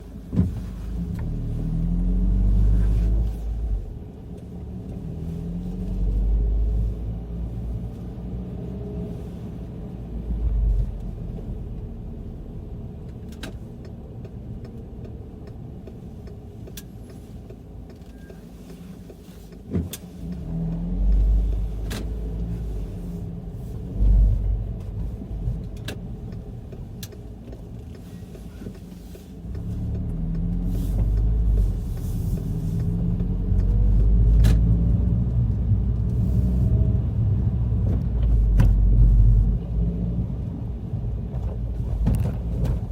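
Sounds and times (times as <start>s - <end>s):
car engine rumbling: 0.0s - 42.9s.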